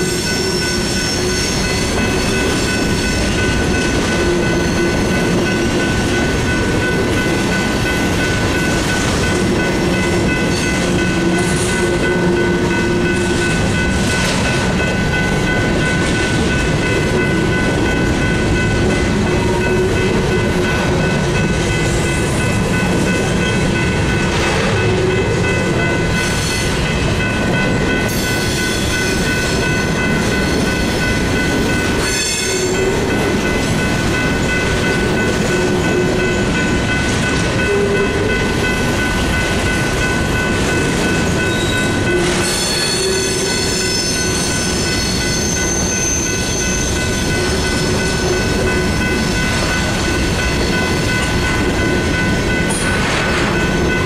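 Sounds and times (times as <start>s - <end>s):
crossing bell ringing: 0.0s - 54.0s
freight train rolling: 0.0s - 54.0s.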